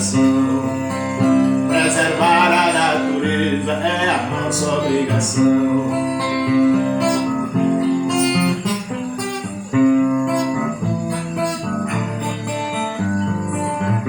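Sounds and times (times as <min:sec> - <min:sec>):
acoustic guitar plucked and strummed: 0:00.0 - 0:14.0.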